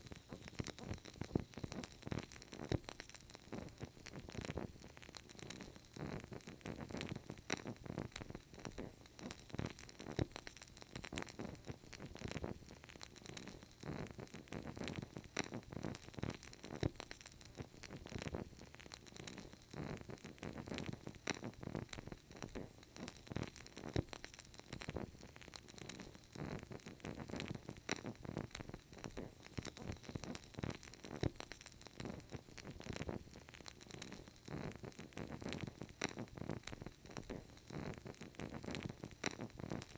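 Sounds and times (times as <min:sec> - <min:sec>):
candle crackling: 0:00.0 - 0:39.9.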